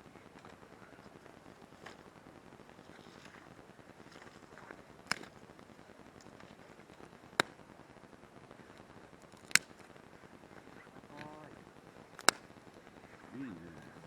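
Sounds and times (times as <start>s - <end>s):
campfire wood popping: 0.0s - 14.0s
faint steady hiss: 0.0s - 14.0s.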